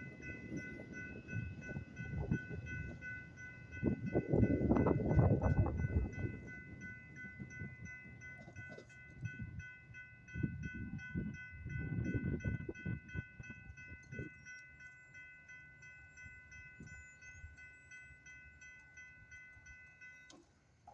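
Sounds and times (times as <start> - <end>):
low train rumble: 0.0 - 20.9
railroad crossing bell ringing: 0.0 - 20.9.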